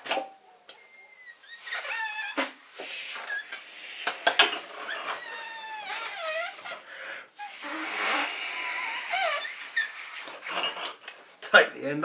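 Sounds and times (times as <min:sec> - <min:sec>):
toy balloon squealing: 0:00.8 - 0:10.8.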